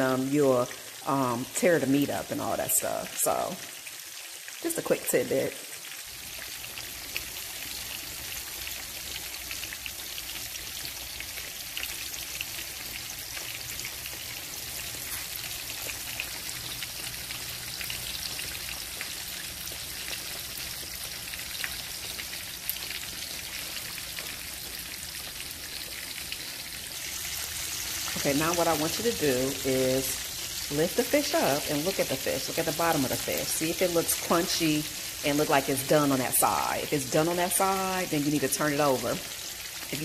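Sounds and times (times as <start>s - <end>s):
fish frying in oil: 0.0s - 40.0s.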